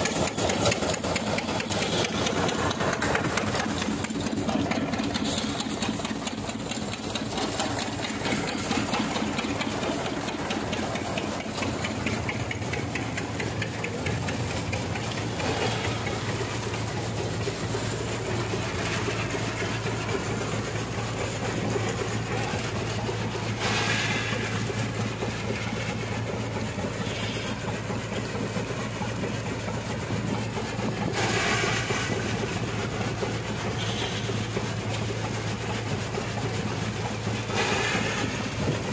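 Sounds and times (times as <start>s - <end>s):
machine engine hum: 0.0s - 38.9s.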